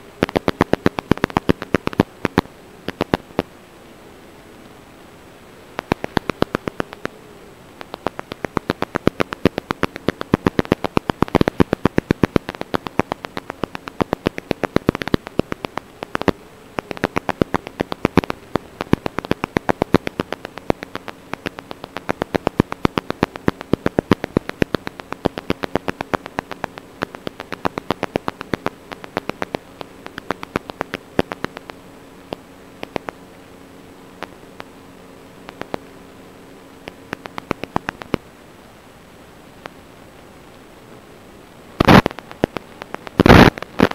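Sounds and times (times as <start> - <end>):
radio static clicks: 0.0 - 38.4, 39.5 - 43.9
low hum: 0.0 - 43.9.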